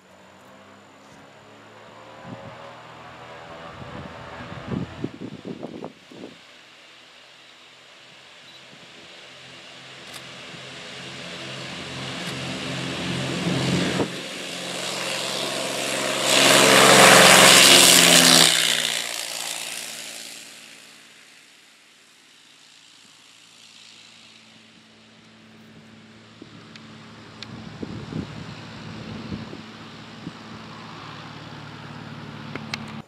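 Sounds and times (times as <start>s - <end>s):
propeller plane engine drone: 0.0s - 33.0s.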